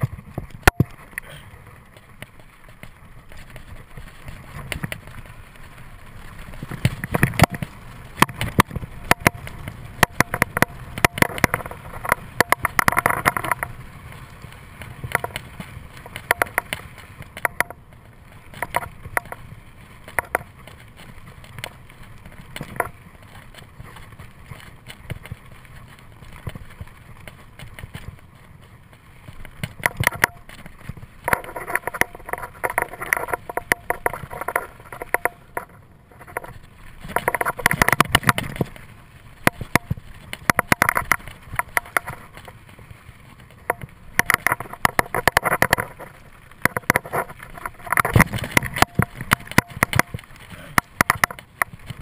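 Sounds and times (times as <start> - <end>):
bike clattering over bumps: 0.0 - 52.0
bike tyres rushing on dirt trail: 0.0 - 52.0.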